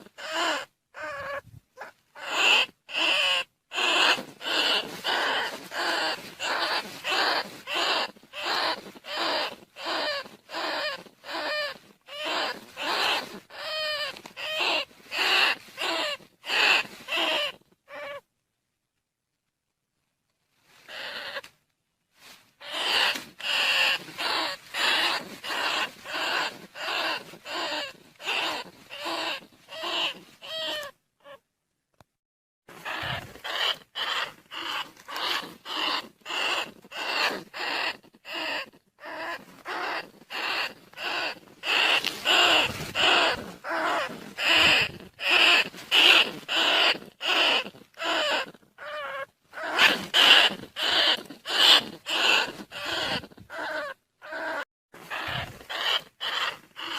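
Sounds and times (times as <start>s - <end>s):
rat squealing calls: 0.0s - 18.2s, 20.8s - 21.5s, 22.6s - 31.4s, 32.7s - 56.9s.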